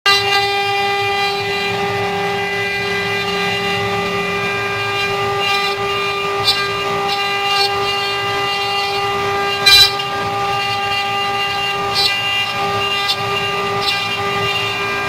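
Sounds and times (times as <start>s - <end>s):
router spindle motor whine: 0.1s - 15.0s.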